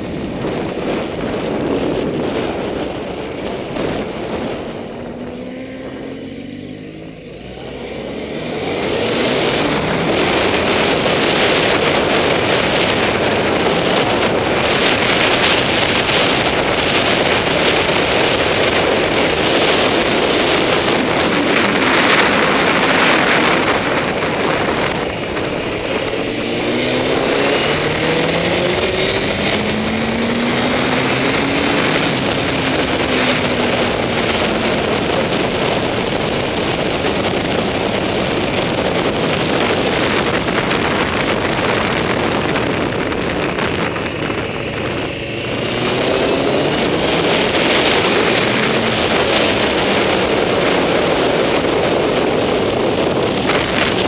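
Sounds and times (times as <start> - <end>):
motorcycle engine accelerating: 0.0 - 54.0
wind rushing on microphone: 0.0 - 54.0.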